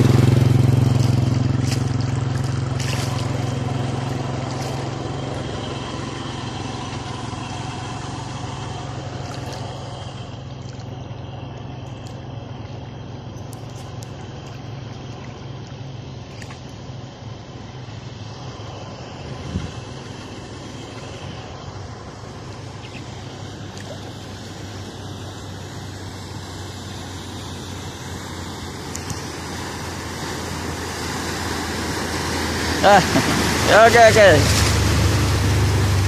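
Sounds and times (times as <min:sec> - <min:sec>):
floodwater washing: 0:00.0 - 0:36.0
vehicle engine running: 0:00.0 - 0:36.0.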